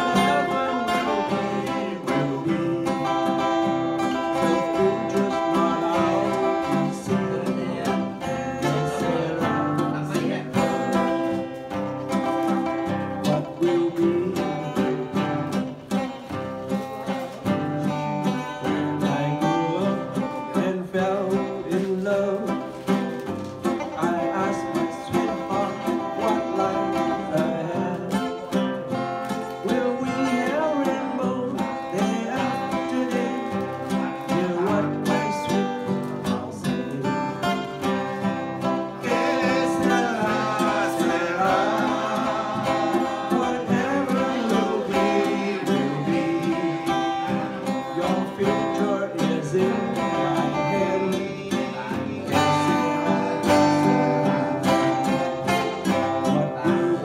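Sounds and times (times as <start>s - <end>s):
acoustic guitar: 0.0s - 57.0s
man singing: 0.0s - 57.0s.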